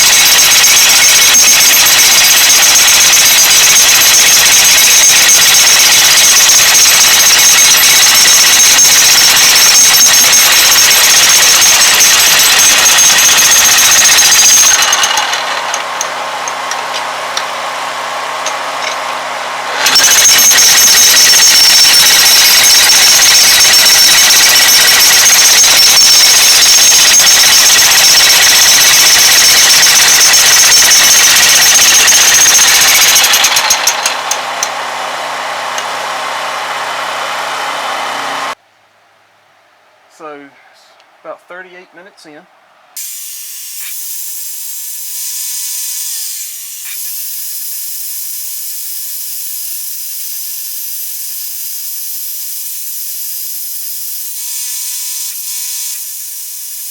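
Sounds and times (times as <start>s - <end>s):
jackhammer breaking concrete: 0.0s - 38.6s, 43.0s - 56.9s.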